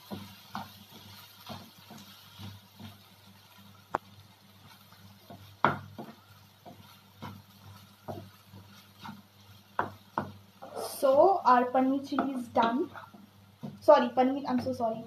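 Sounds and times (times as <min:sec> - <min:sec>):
wooden spatula scraping pan: 0:00.0 - 0:03.6, 0:04.6 - 0:14.8.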